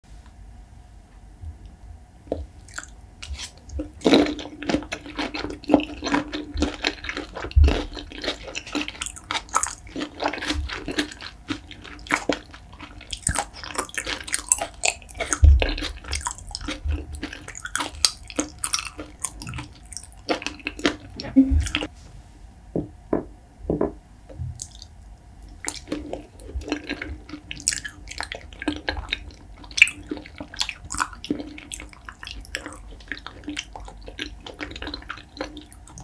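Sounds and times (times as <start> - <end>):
chewing mouth clicks: 2.3 - 21.9, 24.6 - 36.0.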